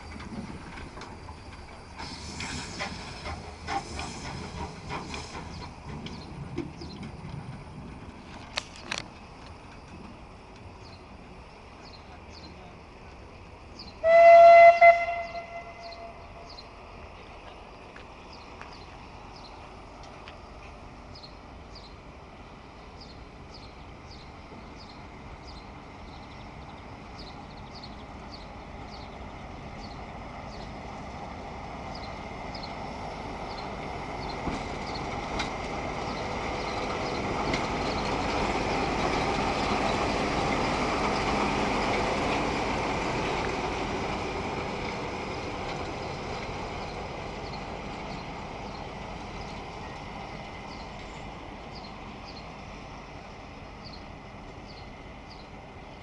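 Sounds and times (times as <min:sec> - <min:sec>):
diesel locomotive passing: 0:00.0 - 0:56.0.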